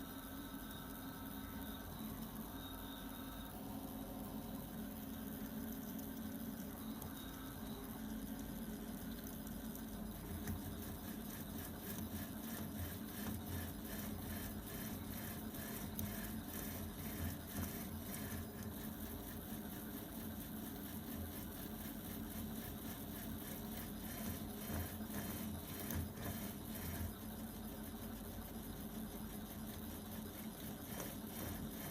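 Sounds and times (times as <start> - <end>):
printer motor hum: 0.0 - 31.9.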